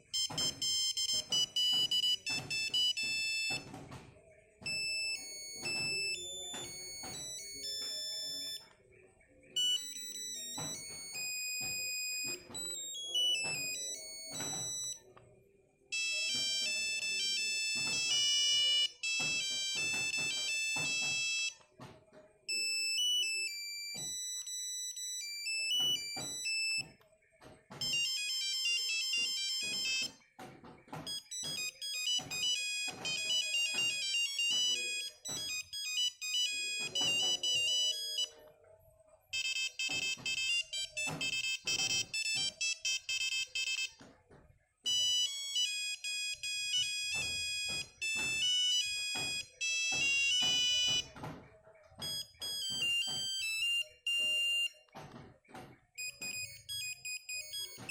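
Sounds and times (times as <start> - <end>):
monophonic phone ringtones: 0.0 - 21.8, 22.4 - 38.5, 39.2 - 57.9.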